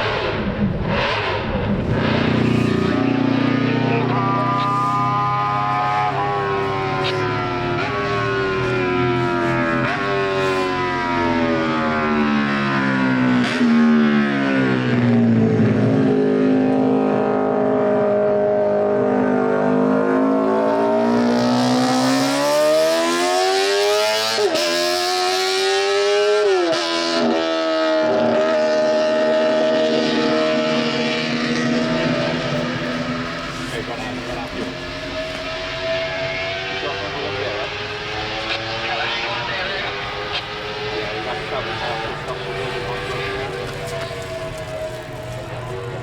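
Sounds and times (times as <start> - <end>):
racing motorcycle engine: 0.0 - 46.0.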